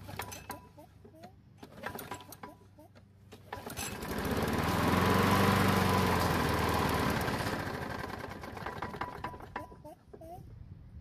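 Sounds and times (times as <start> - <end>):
lawn mower engine starting: 0.0 - 0.7, 1.5 - 9.8.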